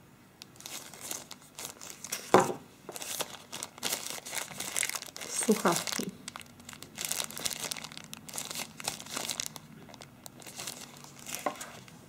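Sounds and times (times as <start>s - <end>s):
plastic bag crinkling: 0.5s - 12.0s.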